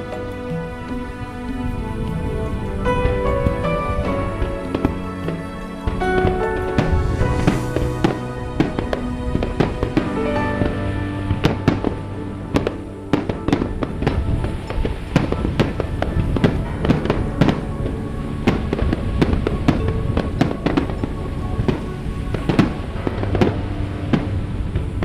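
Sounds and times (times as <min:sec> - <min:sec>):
music playing: 0:00.0 - 0:25.0.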